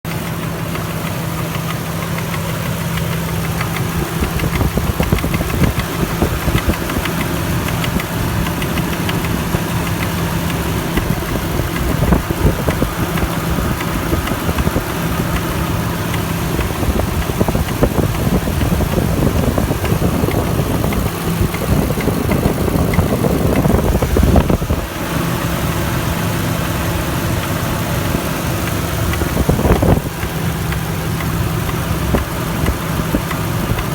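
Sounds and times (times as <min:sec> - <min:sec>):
engine running with tapping knock: 0:00.1 - 0:33.9.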